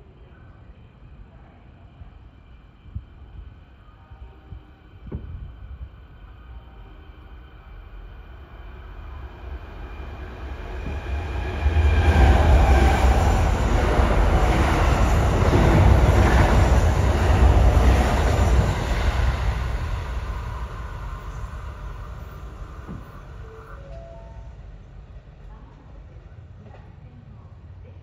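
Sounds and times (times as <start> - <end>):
electric train passing: 2.2 - 26.2.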